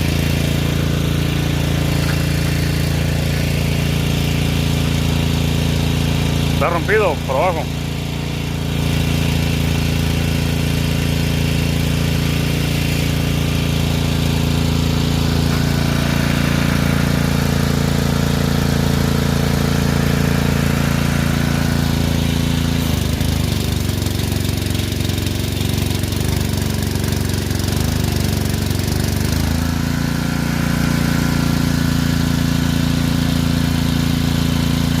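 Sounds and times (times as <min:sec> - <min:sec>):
welding machine humming: 0:00.0 - 0:33.6.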